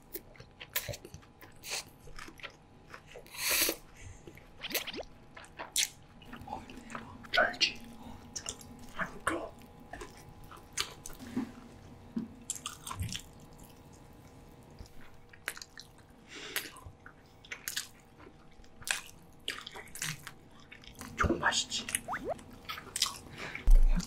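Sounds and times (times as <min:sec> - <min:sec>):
people chewing wetly: 0:00.0 - 0:21.2, 0:21.8 - 0:24.0
faint steady hum: 0:00.0 - 0:24.0.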